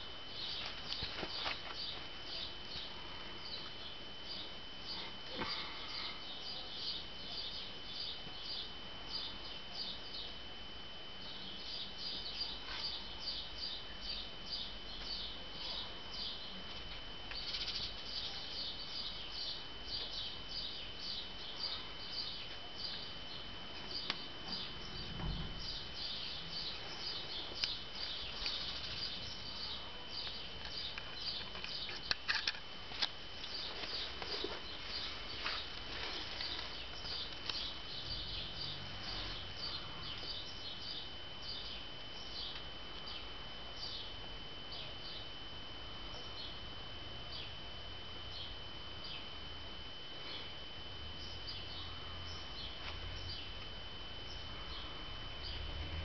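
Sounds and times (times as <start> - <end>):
steady high whine: 0.0 - 56.0
small birds chirping: 0.3 - 10.4, 11.2 - 49.5, 50.2 - 55.7.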